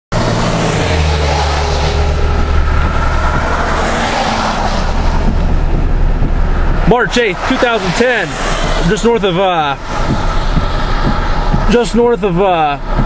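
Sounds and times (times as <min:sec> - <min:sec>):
car engine and road noise: 0:00.1 - 0:13.0.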